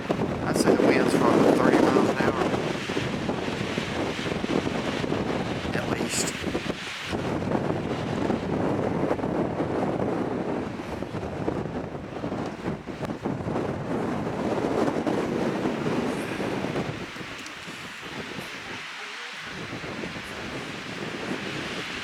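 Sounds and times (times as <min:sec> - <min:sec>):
gusting wind on microphone: 0:00.0 - 0:22.0.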